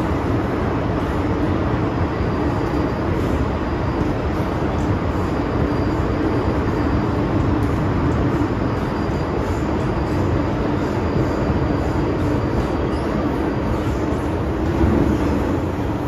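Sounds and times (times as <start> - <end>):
constant hum: 0.0 - 16.0
train wheels rumbling on rail: 0.0 - 16.0.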